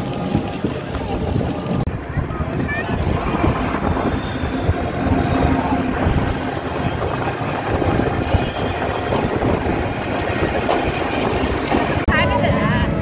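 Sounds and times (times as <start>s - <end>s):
rushing road noise: 0.0s - 13.0s
wind buffeting microphone: 0.0s - 13.0s.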